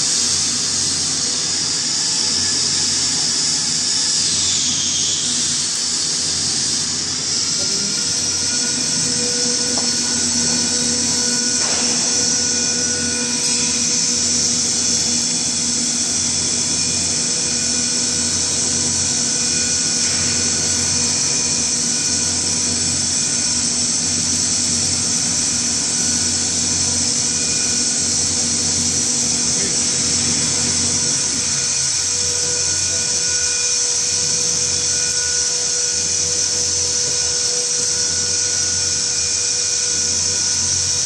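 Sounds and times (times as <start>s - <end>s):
mixer motor whine and hiss: 0.0s - 41.0s.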